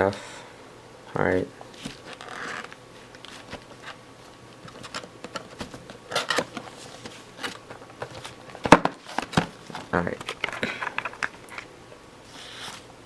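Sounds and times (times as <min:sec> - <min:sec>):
packaging rustling and scraping: 0:01.4 - 0:12.9.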